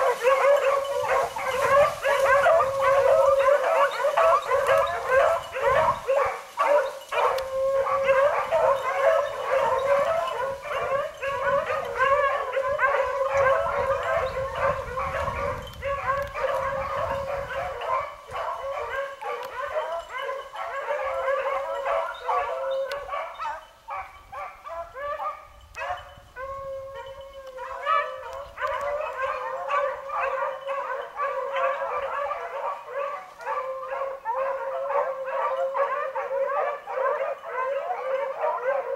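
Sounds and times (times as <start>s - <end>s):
beagles baying: 0.0s - 38.9s.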